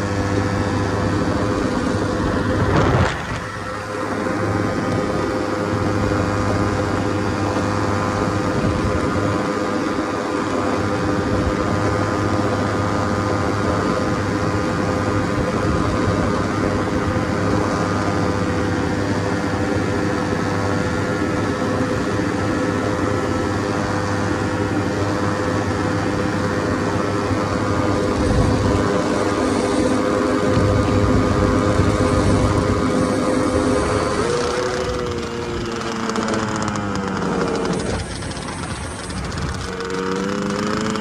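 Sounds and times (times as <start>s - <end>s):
small aircraft engine running: 0.0s - 41.0s.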